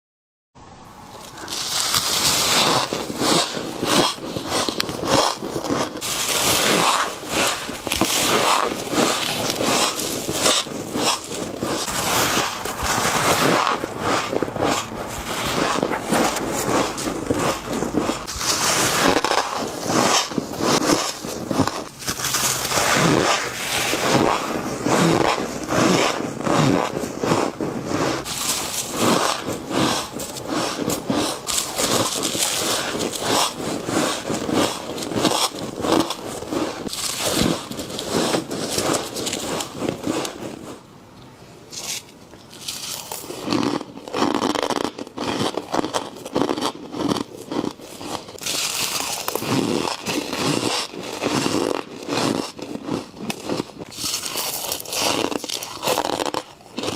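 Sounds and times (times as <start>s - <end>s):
person biting crunchy frost: 1.2s - 40.8s, 41.7s - 56.9s.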